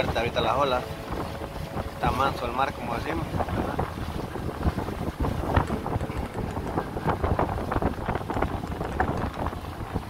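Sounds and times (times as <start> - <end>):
choppy water rushing: 0.0 - 10.0
wind buffeting microphone: 0.0 - 10.0.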